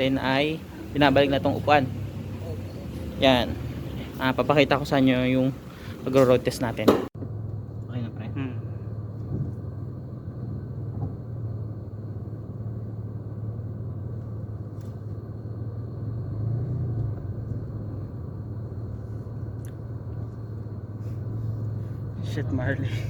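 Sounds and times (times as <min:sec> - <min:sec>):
car engine humming: 0:00.0 - 0:23.0.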